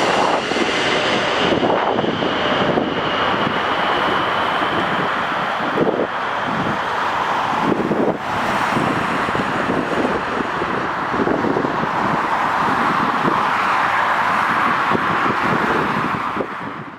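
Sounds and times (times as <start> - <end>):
jet engines roaring: 0.0 - 16.9
wind buffeting microphone: 0.0 - 16.9.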